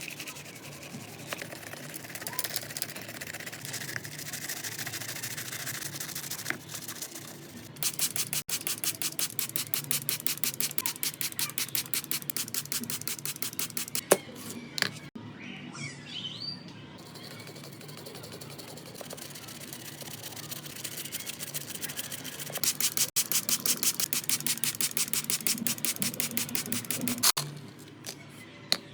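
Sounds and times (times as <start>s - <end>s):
brush scrubbing: 0.0s - 14.0s, 17.1s - 27.4s.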